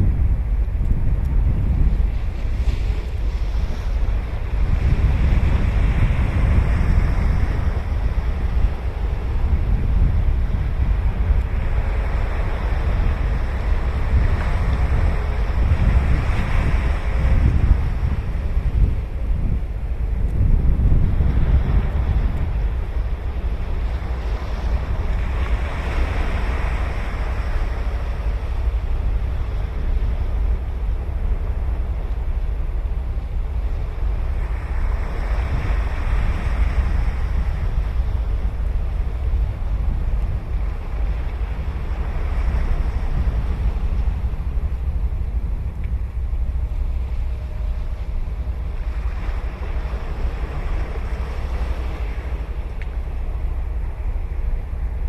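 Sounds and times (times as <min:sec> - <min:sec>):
ocean waves breaking: 0:00.0 - 0:55.0
wind rumble on microphone: 0:00.0 - 0:55.0.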